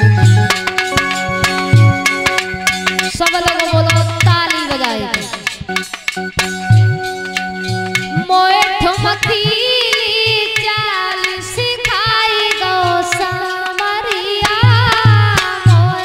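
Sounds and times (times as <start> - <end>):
dholak drum beats: 0.0 - 16.0
rhythmic hand-clapping: 0.0 - 16.0.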